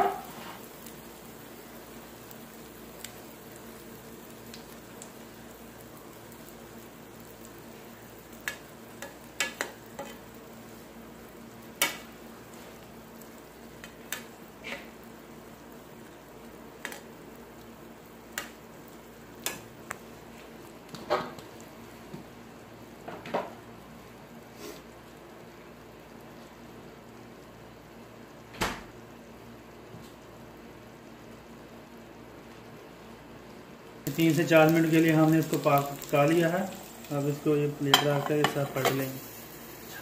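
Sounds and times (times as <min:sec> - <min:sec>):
batter sizzling in a frying pan: 0:00.0 - 0:40.0.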